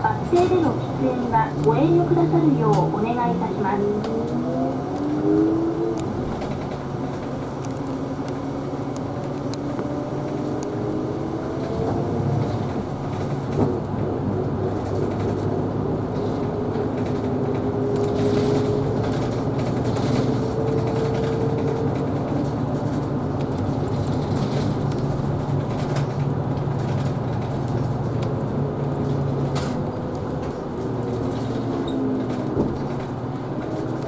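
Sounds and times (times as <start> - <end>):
bus engine drone: 0.0 - 34.0.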